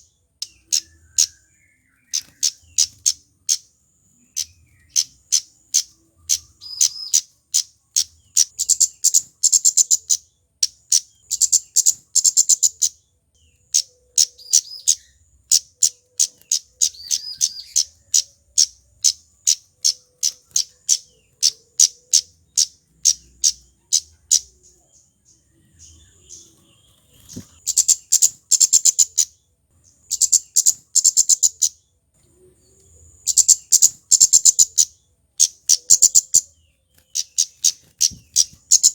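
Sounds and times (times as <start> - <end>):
bird chips and rattling trills: 0.0 - 24.9, 25.8 - 31.8, 33.2 - 38.9.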